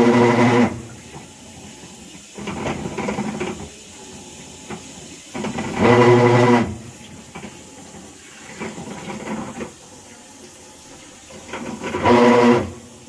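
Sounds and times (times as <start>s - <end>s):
washing machine grinding buzz: 0.0s - 13.0s.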